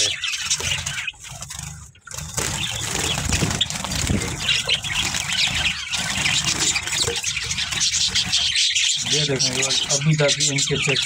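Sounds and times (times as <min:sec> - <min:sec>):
sparrows chirping: 0:00.0 - 0:11.0
wings fluttering: 0:00.0 - 0:11.0.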